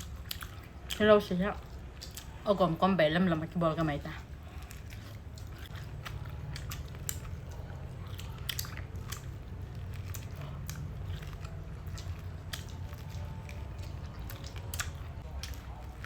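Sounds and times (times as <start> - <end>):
chewing corn: 0.0 - 16.0
steady low hum: 0.0 - 16.0.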